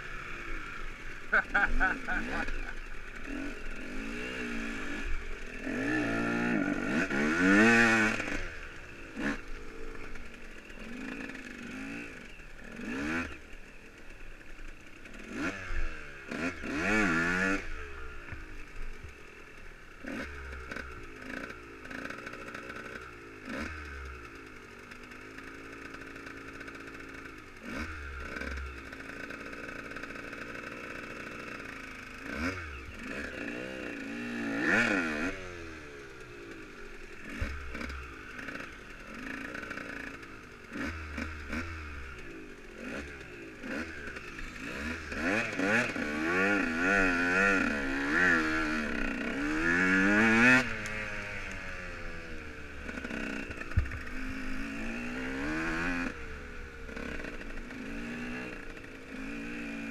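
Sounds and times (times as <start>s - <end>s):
dirt bike engine revving: 0.0s - 59.9s
motorcycle engine: 0.0s - 59.9s.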